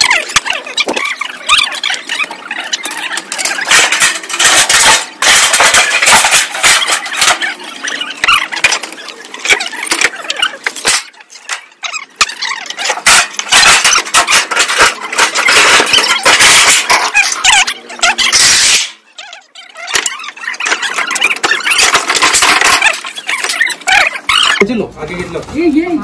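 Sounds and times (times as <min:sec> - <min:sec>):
rubble clattering and scraping: 0:00.0 - 0:25.6.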